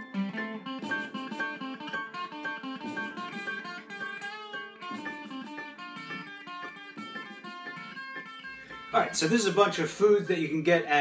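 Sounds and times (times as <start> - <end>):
plucked guitar theme music: 0.0 - 11.0.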